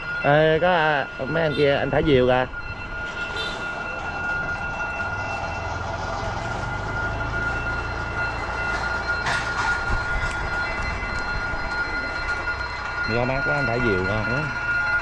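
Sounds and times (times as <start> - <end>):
constant high-pitched tone: 0.0 - 15.0
train rumbling past: 0.0 - 15.0.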